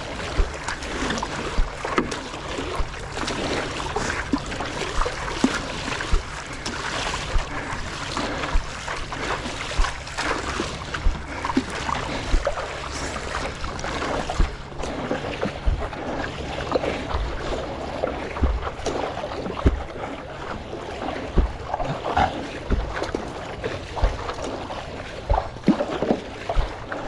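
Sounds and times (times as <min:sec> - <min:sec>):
paddle stroke thumps: 0:00.0 - 0:16.2, 0:17.0 - 0:27.0
water splashing and sloshing: 0:00.0 - 0:27.0.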